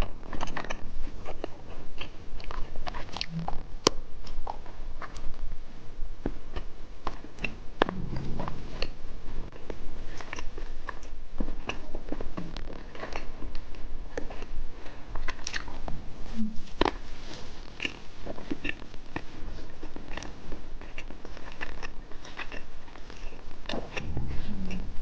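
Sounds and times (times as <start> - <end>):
chewing candy with crunches: 0.0 - 5.6, 6.2 - 25.0.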